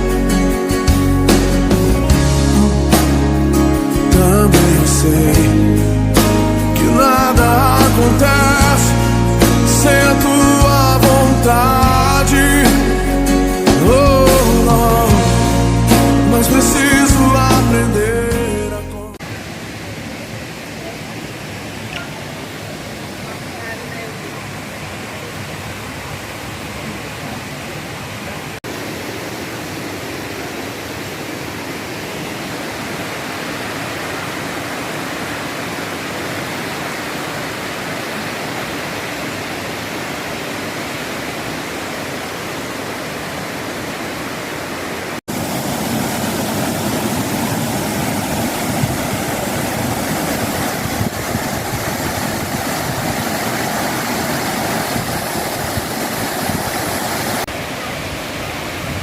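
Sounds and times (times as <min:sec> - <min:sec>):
waterfall rushing water: 0:00.0 - 0:18.4, 0:19.1 - 0:59.0.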